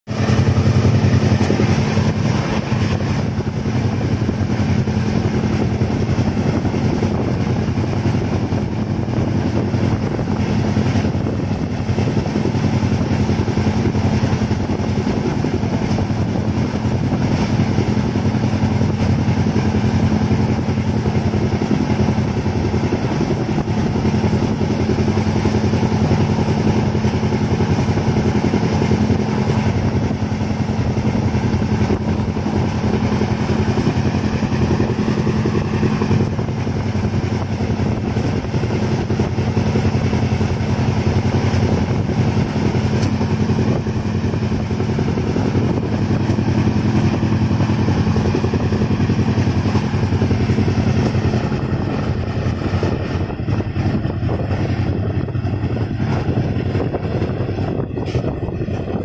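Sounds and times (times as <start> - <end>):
constant low hum: 0.1 - 59.0
train wheels rolling on rails: 0.1 - 59.0.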